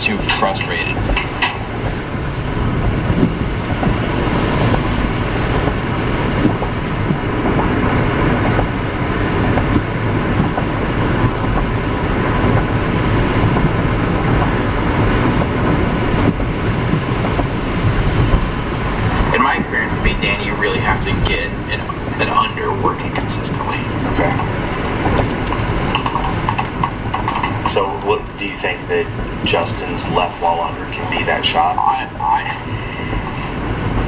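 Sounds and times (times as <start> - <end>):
car driving through rain: 0.0 - 34.0.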